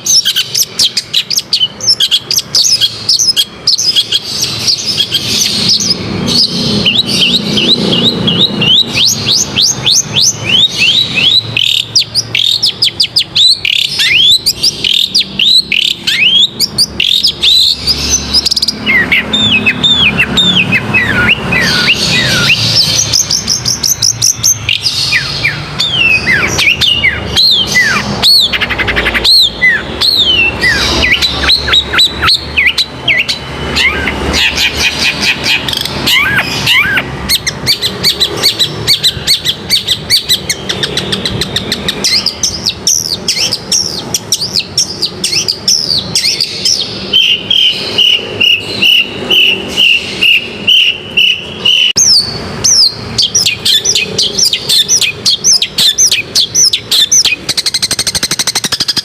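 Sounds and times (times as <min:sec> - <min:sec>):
bird chirping and whistling: 0:00.0 - 0:59.0.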